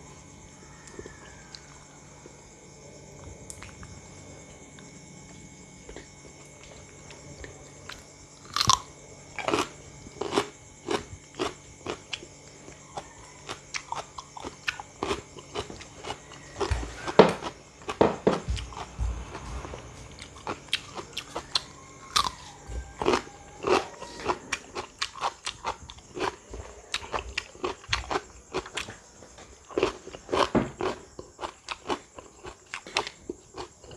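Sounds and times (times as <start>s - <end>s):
person chewing crisp produce: 3.1s - 33.9s.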